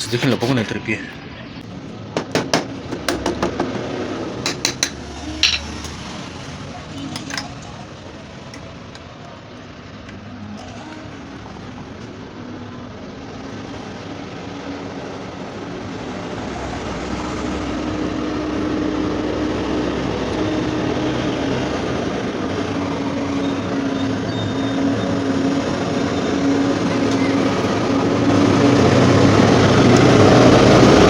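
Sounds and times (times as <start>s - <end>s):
vehicle engine running: 1.2s - 31.0s.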